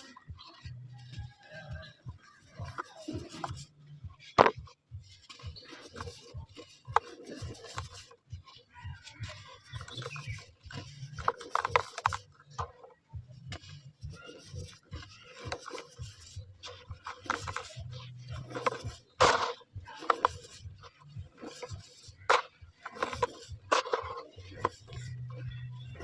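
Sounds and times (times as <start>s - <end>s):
cement balls crunching: 0.0s - 26.0s.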